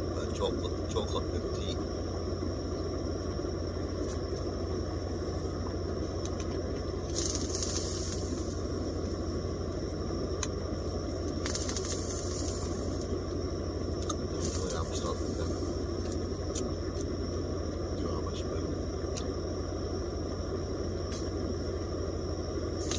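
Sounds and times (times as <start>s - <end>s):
low rumbling background noise: 0.0s - 22.9s.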